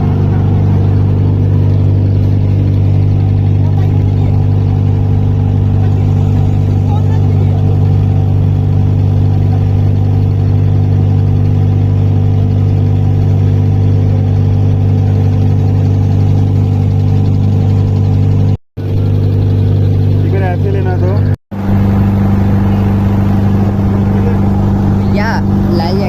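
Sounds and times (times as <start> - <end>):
motorboat engine running: 0.0 - 26.0.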